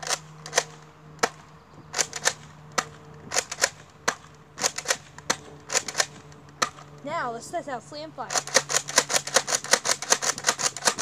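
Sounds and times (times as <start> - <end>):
toy blaster plastic clacks: 0.0 - 7.2, 8.2 - 11.0.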